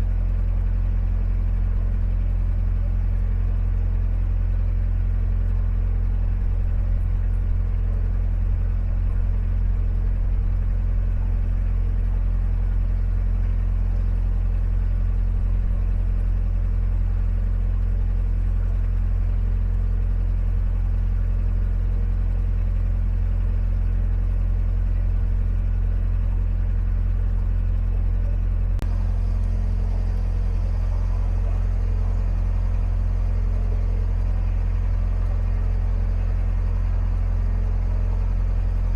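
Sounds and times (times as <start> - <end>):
diesel boat engine running: 0.0 - 38.9.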